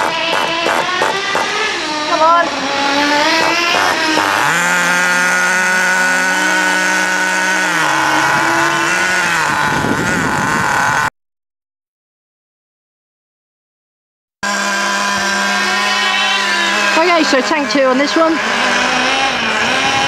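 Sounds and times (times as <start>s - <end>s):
small nitro engine buzzing: 0.0s - 11.1s, 14.4s - 20.0s.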